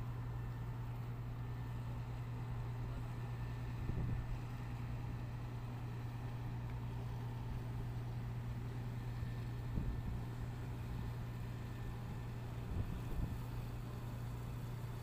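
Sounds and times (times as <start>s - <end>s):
boat diesel engine droning: 0.0s - 15.0s.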